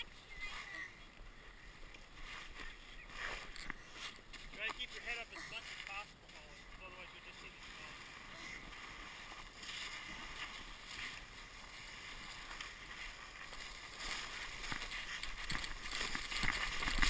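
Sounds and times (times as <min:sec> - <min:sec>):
sled sliding over snow: 0:02.1 - 0:17.0.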